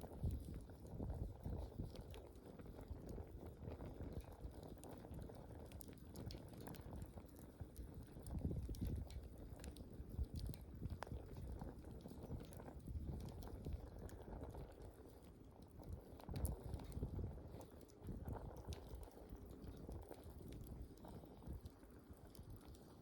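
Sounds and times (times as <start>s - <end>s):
burning wood crackling: 0.0s - 23.0s
low rumble of flames: 0.0s - 23.0s.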